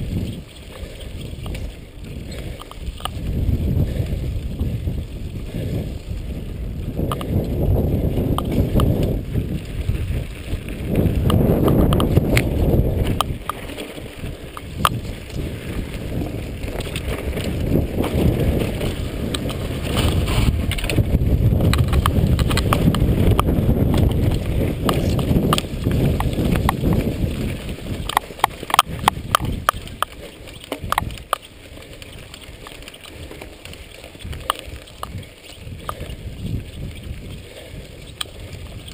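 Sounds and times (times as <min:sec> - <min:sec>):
bike rattling: 0:00.0 - 0:38.9
tyres rumbling on dirt: 0:00.0 - 0:38.9
wind on microphone: 0:00.0 - 0:38.9.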